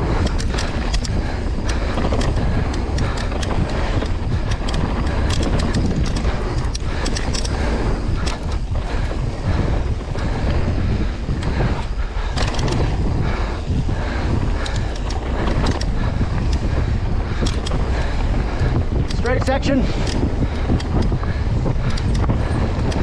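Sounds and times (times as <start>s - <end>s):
bike rattling clicks: 0.0s - 23.0s
bike tyres rolling on dirt: 0.0s - 23.0s
wind buffeting microphone: 0.0s - 23.0s.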